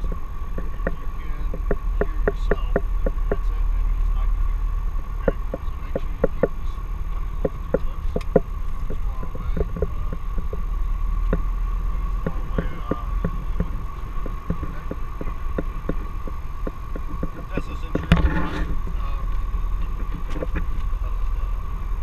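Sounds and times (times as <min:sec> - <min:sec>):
propeller airplane engine droning: 0:00.0 - 0:22.0
thin whine: 0:00.0 - 0:22.0.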